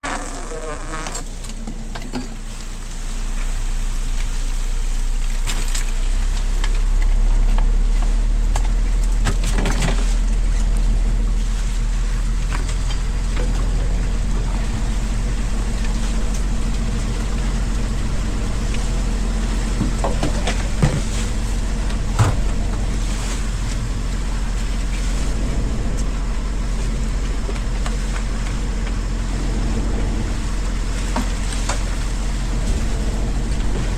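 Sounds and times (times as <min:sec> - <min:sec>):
boat engine rumbling: 0:00.0 - 0:33.9.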